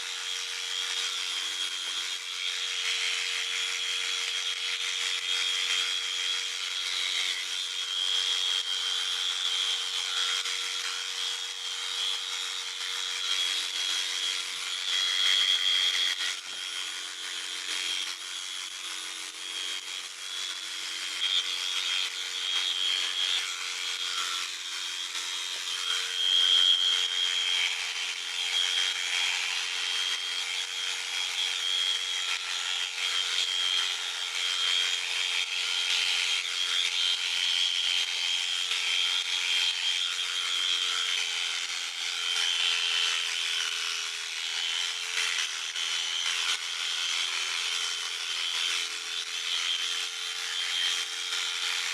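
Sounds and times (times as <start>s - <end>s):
electric shears motor whine: 0.0s - 51.9s
shears rasping through fleece: 0.0s - 51.9s.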